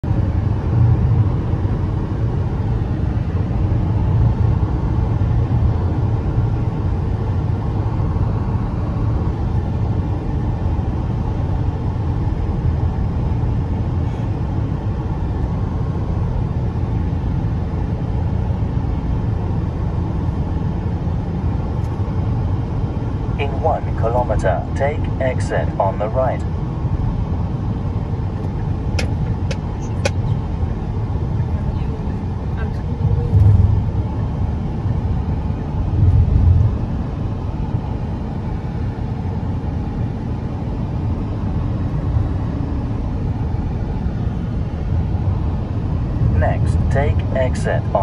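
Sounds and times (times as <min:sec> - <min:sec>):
road and tyre rumble: 0:00.0 - 0:48.0.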